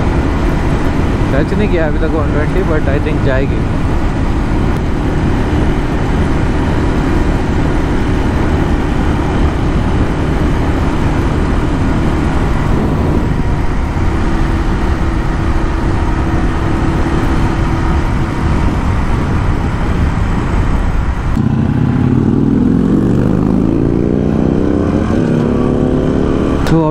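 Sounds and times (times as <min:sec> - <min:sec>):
motorcycle engine at full throttle: 0:00.0 - 0:26.9
wind rushing over microphone: 0:00.0 - 0:26.9.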